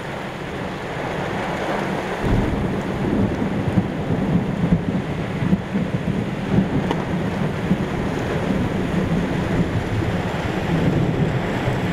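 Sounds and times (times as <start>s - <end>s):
heavy rain rushing: 0.0s - 11.9s
sharp ticks of raindrops: 0.0s - 11.9s
wind gusts: 0.0s - 11.9s
low thunder rumble: 0.5s - 11.9s.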